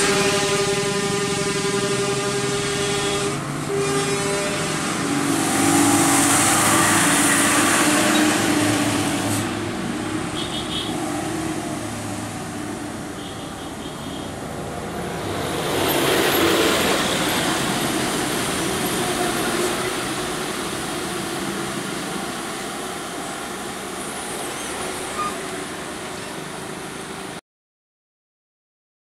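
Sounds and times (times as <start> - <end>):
road traffic: 0.0 - 27.4
truck driving past: 0.0 - 27.4.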